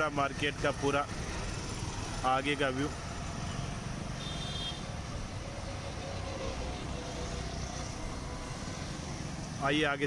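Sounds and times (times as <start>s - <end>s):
faint wavering engine whine: 0.0s - 9.8s
road traffic rumble: 0.0s - 10.0s.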